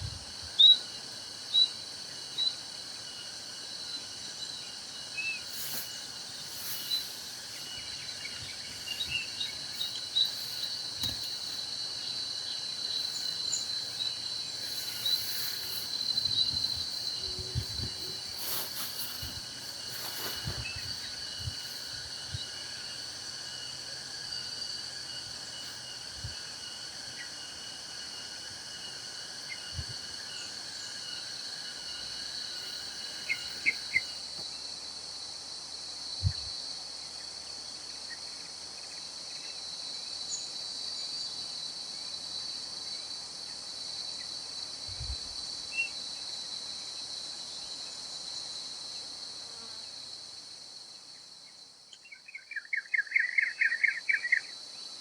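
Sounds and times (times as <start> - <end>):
high-pitched insect chorus: 0.0 - 55.0
lower insect tone: 0.0 - 55.0.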